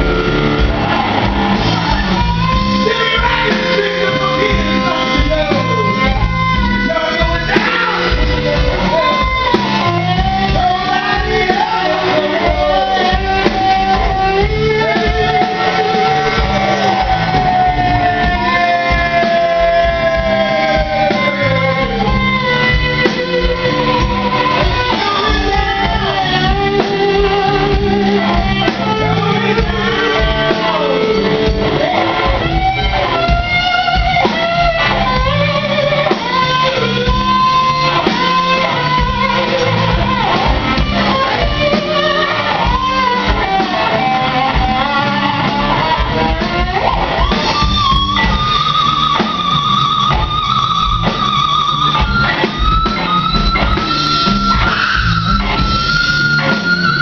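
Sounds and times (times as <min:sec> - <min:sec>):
live band playing loud jam: 0:00.0 - 0:57.0.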